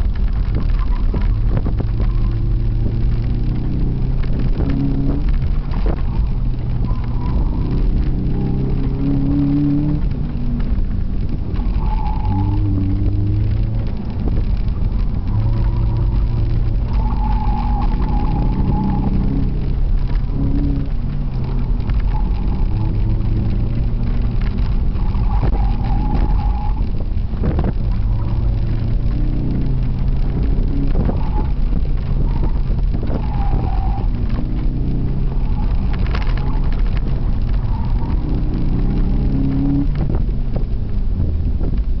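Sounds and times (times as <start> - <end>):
car engine revving: 0.0 - 42.0
road and wind noise: 0.0 - 42.0.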